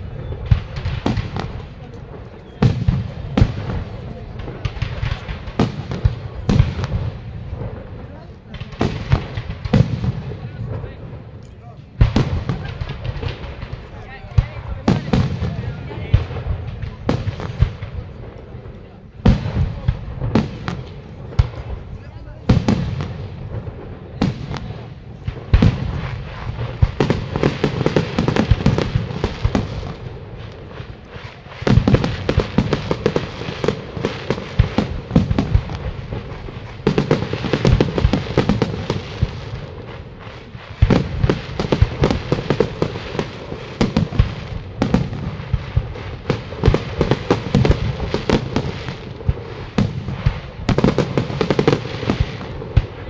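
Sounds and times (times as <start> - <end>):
fireworks bursting with crackling: 0.0 - 53.0.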